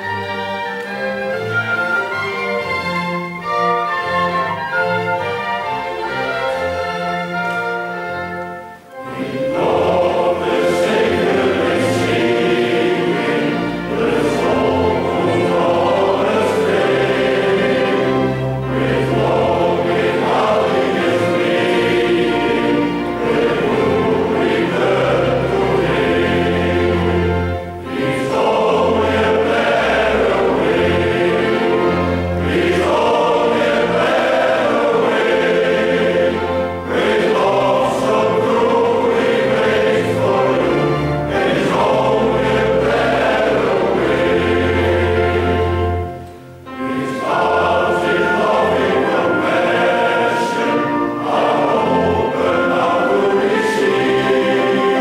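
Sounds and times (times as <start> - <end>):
string ensemble playing: 0.0 - 55.0
male choir singing: 9.0 - 55.0.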